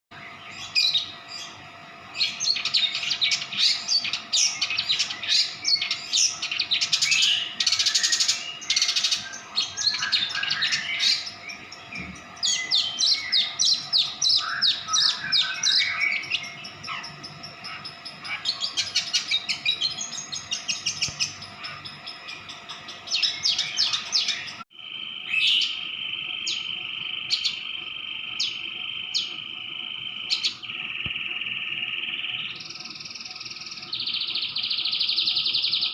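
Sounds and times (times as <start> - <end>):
high buzzing tone with ticks: 0.1 - 35.9
songbird chirping and trilling: 0.1 - 35.9.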